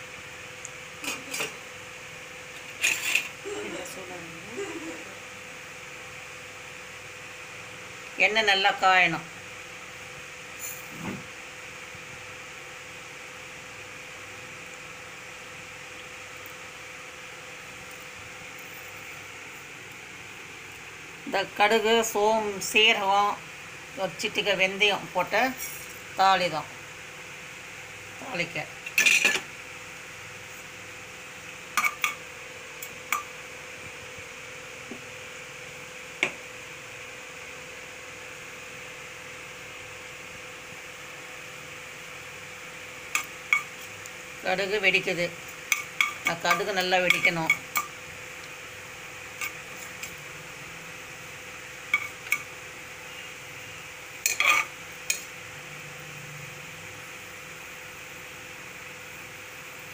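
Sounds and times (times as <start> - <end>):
faint hum: 0.0 - 59.9.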